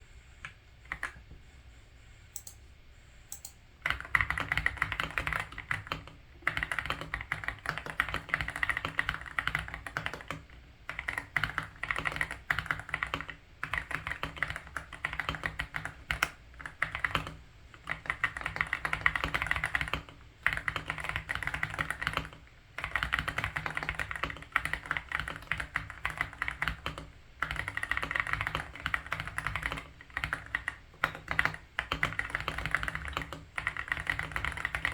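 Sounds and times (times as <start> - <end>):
fast mechanical keyboard typing: 3.3 - 34.9.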